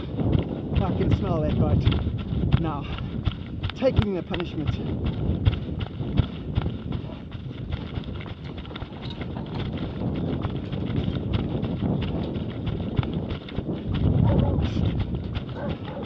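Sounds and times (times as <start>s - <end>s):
low rumble of movement: 0.0s - 16.0s
running footsteps on rocky trail: 0.0s - 16.0s.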